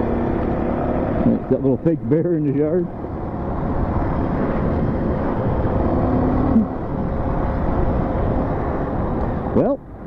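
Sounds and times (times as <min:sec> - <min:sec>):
motorcycle engine running: 0:00.0 - 0:09.1
wind rushing over microphone: 0:00.0 - 0:10.0.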